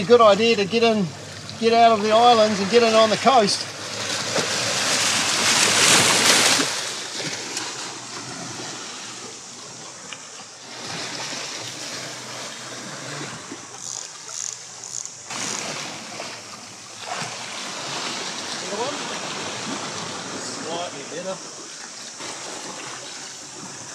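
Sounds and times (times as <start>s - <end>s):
sea water splashing against rocks: 0.0s - 23.9s.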